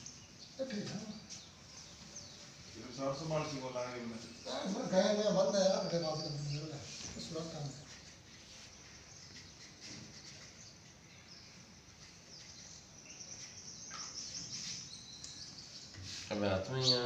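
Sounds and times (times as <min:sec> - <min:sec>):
faint high-pitched chirping: 0:00.0 - 0:04.9, 0:05.6 - 0:17.0
low background noise: 0:00.0 - 0:17.0.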